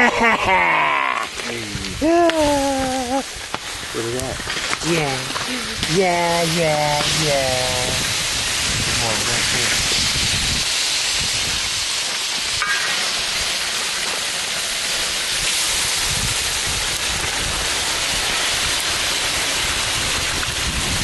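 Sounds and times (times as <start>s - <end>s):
hot metal hissing in water: 0.0s - 21.0s.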